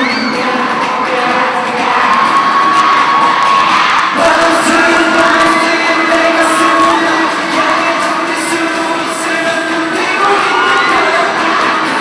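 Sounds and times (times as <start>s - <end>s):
crowd cheering: 0.0s - 12.0s
pop dance track over loudspeakers: 0.0s - 12.0s.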